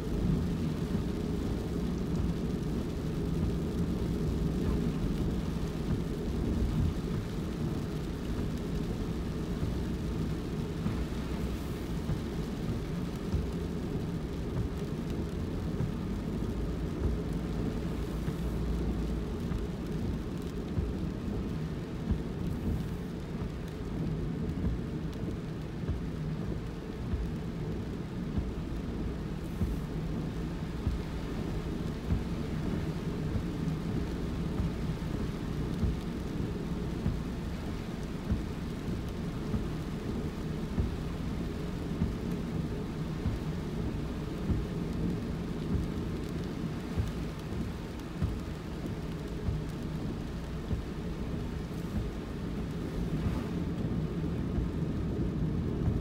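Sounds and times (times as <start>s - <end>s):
tyres rumbling on wet road: 0.0s - 56.0s.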